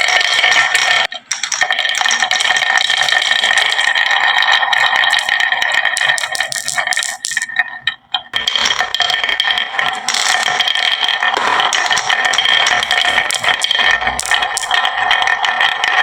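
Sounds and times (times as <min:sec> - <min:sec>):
marbles rolling down wooden track: 0:00.0 - 0:16.0.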